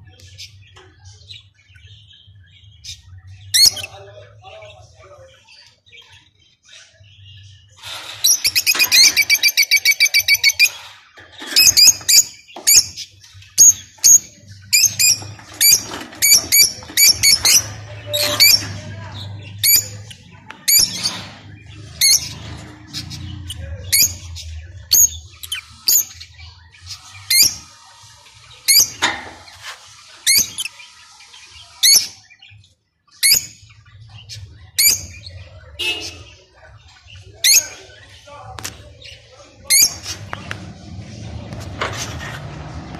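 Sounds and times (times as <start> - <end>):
lovebirds chirping and squawking: 0.0 - 42.9.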